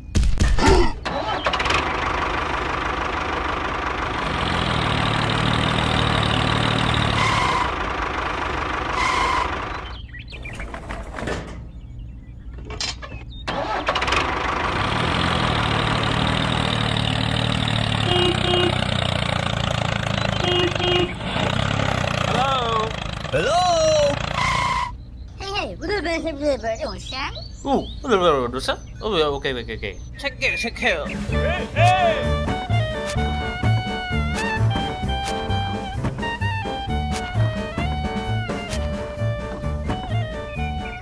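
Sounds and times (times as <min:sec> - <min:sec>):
tractor engine running: 0:01.0 - 0:25.2, 0:31.1 - 0:41.0.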